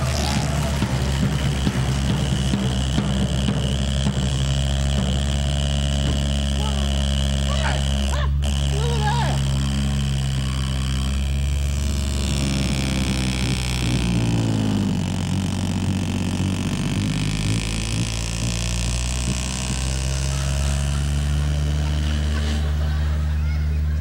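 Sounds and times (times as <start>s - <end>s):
electric fan motor drone: 0.0s - 24.0s.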